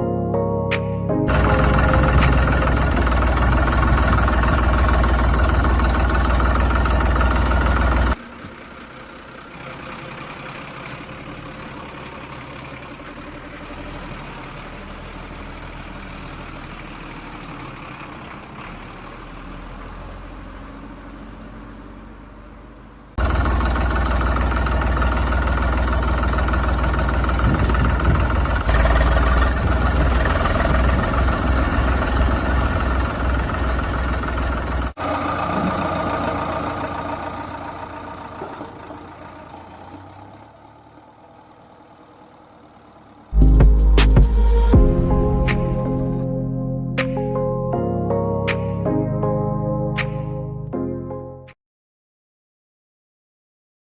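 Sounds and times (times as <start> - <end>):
diesel engine idling: 1.3 - 46.2.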